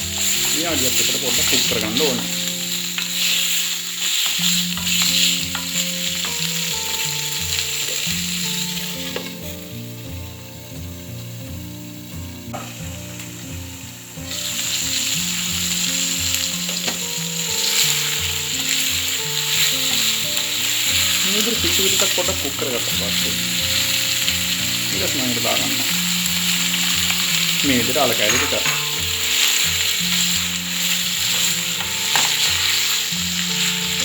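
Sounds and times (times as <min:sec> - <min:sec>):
food sizzling in hot oil: 0:00.0 - 0:34.0.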